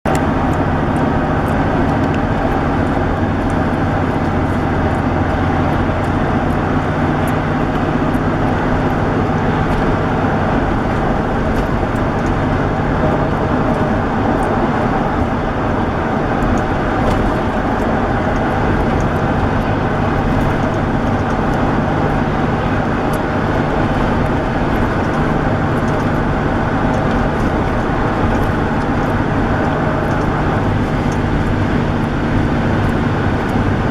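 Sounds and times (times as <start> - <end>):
car engine hum: 0.0 - 33.9
tyre and road noise: 0.0 - 33.9.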